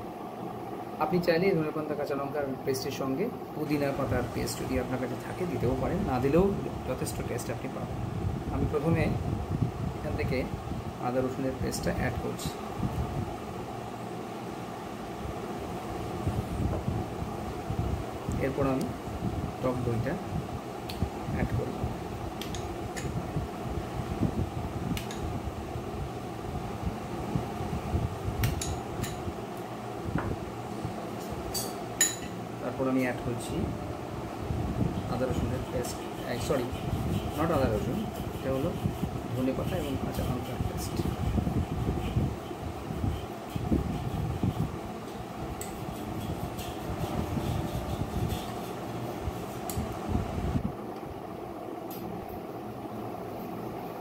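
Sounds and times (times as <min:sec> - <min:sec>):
background hum: 0:00.0 - 0:54.0
fan whirring: 0:00.0 - 0:54.0.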